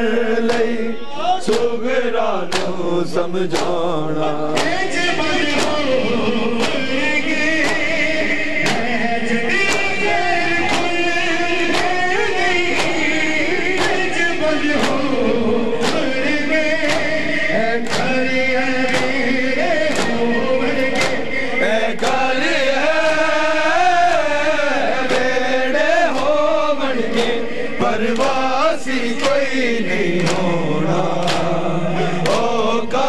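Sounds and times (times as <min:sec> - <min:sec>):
men singing a lament: 0:00.0 - 0:33.0.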